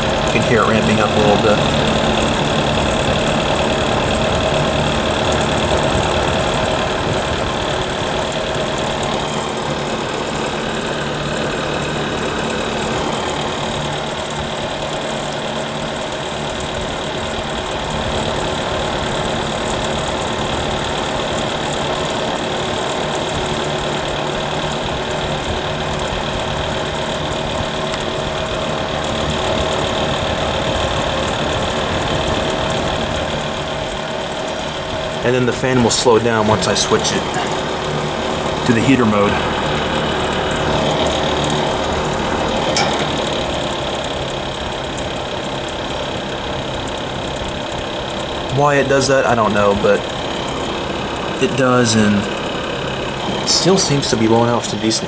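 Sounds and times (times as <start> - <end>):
low motor hum: 0.0 - 55.0
space heater fan air rush: 0.0 - 55.0.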